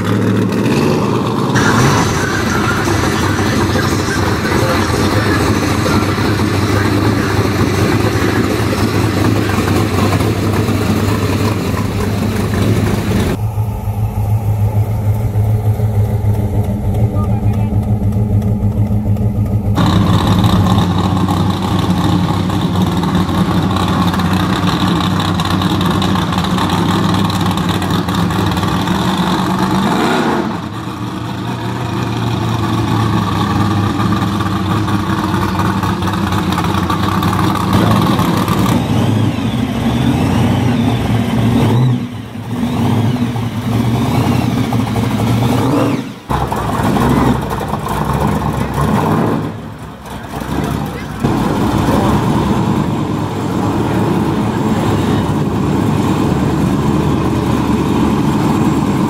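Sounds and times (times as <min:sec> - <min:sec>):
loud car engines revving: 0:00.0 - 0:59.0.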